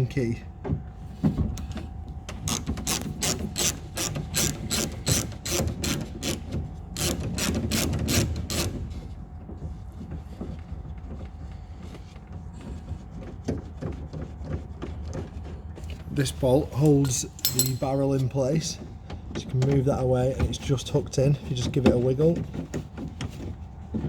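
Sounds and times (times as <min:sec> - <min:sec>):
rubbing and handling of tool: 0:01.1 - 0:24.0.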